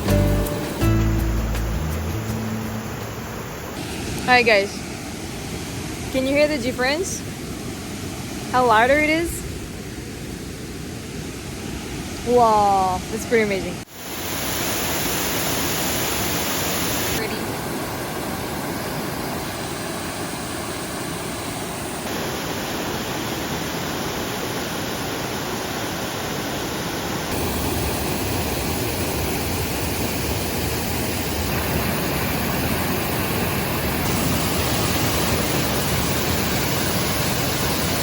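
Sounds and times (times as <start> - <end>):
waterfall roaring: 0.0 - 9.1, 12.0 - 38.0.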